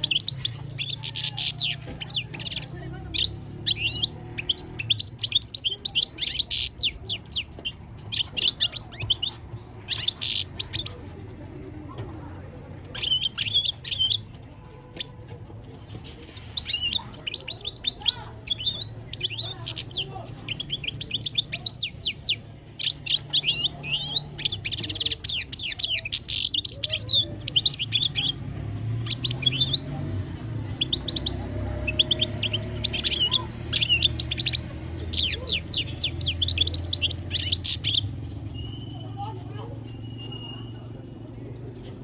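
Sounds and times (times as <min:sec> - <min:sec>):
goldfinch twittering song: 0:00.0 - 0:11.0, 0:12.9 - 0:14.3, 0:16.2 - 0:28.4, 0:29.0 - 0:29.8, 0:30.7 - 0:39.0.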